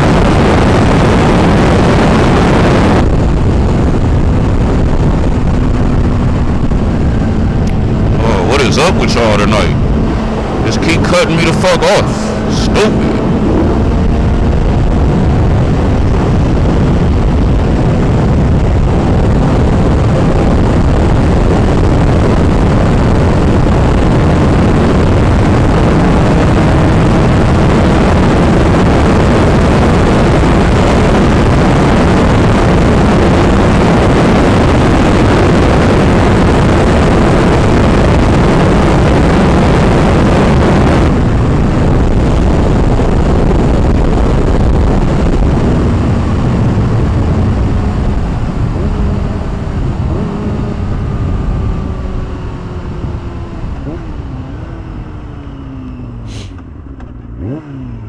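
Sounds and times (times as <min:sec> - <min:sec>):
loud wind rush on microphone: 0:00.0 - 0:58.0
motorcycle engine running: 0:00.0 - 0:58.0.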